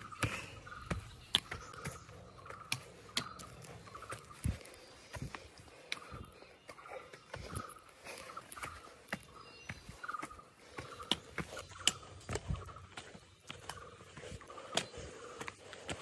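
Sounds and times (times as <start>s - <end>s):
footsteps on dirt trail: 0.0s - 16.0s
trekking pole tapping and scraping: 0.0s - 16.0s
heavy breathing: 0.1s - 0.8s, 2.8s - 16.0s.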